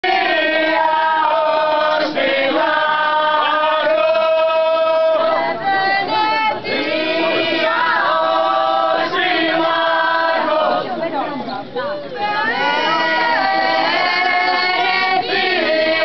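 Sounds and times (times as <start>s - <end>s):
group singing long held notes: 0.0s - 11.2s, 12.2s - 16.0s.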